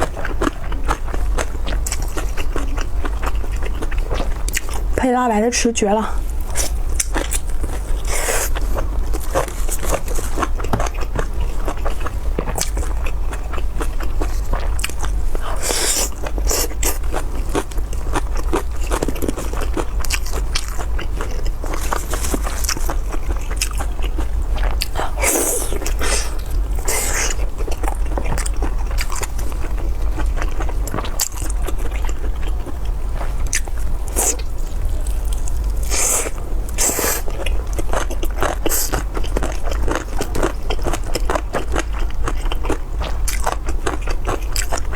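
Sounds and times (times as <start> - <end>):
crunching and slurping: 0.0 - 5.0, 6.2 - 44.9
wet chewing mouth sounds: 0.0 - 5.0, 6.2 - 44.9.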